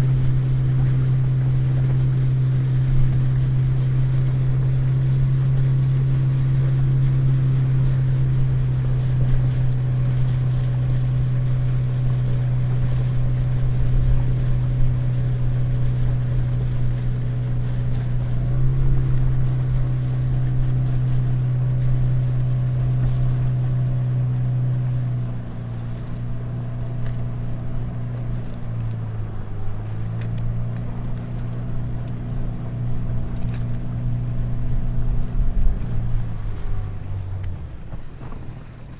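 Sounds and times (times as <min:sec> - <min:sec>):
motorboat engine: 0:00.0 - 0:38.9
water rushing along hull: 0:00.0 - 0:38.9.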